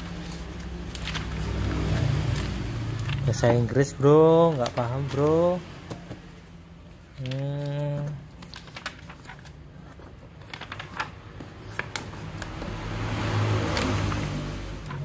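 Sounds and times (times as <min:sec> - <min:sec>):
paper pages turning: 0:00.0 - 0:14.2.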